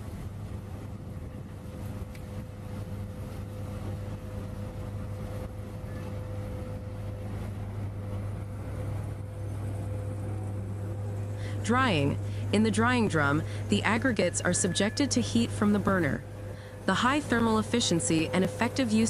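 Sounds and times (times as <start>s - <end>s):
belt conveyor humming: 0.0s - 19.0s.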